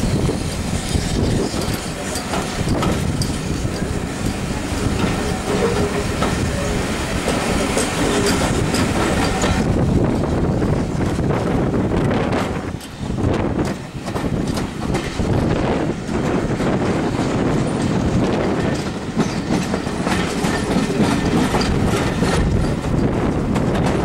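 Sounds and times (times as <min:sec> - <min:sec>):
train running gear rumble: 0:00.0 - 0:24.0
wheels clattering over rail joints: 0:00.0 - 0:24.0.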